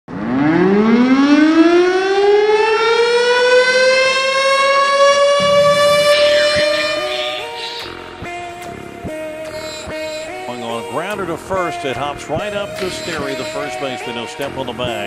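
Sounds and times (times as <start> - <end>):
air-raid siren winding up: 1.2 - 11.7, 12.4 - 14.2.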